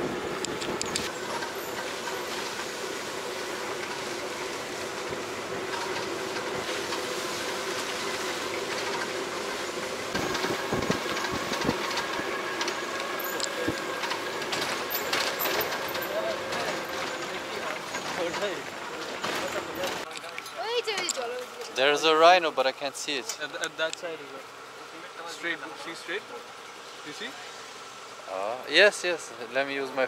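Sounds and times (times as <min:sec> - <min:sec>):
jeep engine and road rumble: 0:00.0 - 0:30.0.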